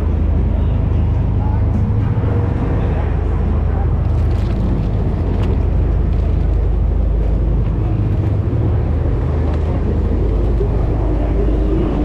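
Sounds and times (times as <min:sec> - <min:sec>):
boat engine low drone: 0:00.0 - 0:12.0.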